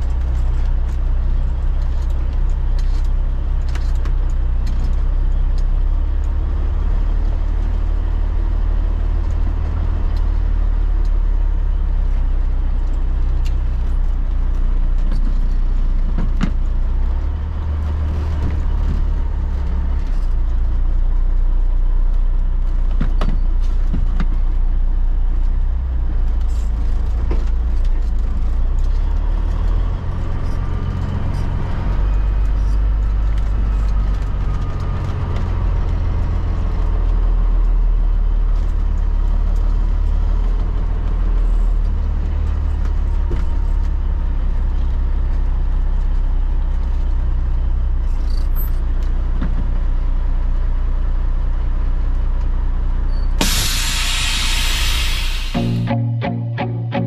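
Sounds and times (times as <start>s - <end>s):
diesel truck engine drone: 0.0s - 57.0s.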